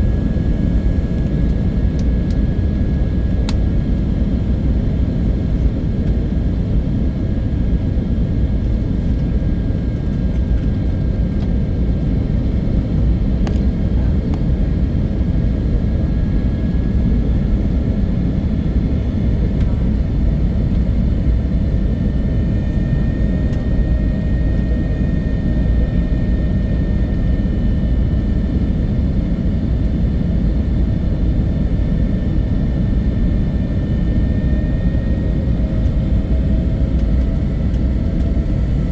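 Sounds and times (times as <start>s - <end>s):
airliner low rumble: 0.0s - 38.9s
high engine whine: 0.0s - 38.9s.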